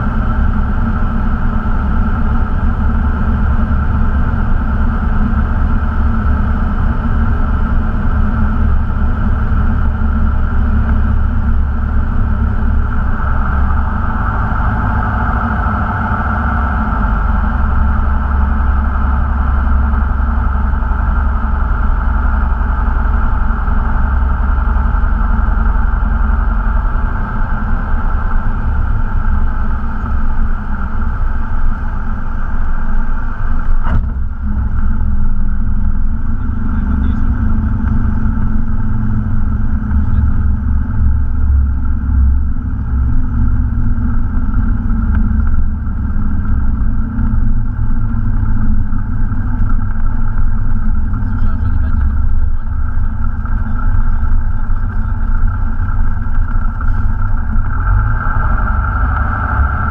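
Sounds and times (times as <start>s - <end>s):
airflow noise: 0.0s - 59.9s
propeller plane engine drone: 0.0s - 59.9s.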